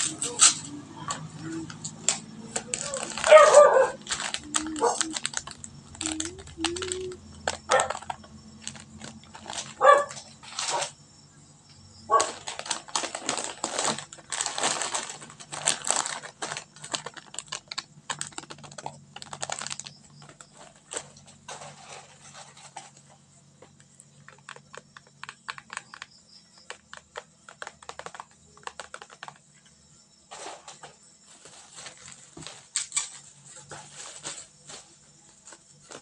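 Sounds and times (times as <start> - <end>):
plastic packaging crinkling: 0.0 - 11.0, 12.1 - 23.0, 24.2 - 29.4, 31.4 - 36.0.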